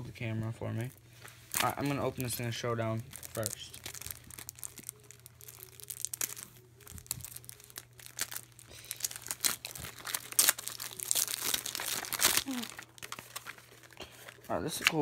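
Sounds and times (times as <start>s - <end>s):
foil wrapper crinkling and tearing: 0.7s - 15.0s.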